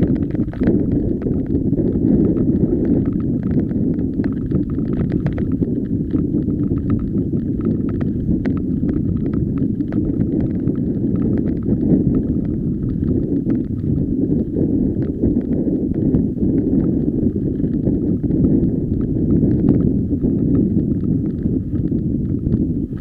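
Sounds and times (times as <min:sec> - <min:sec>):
bike tyres rumbling on gravel: 0:00.0 - 0:23.0.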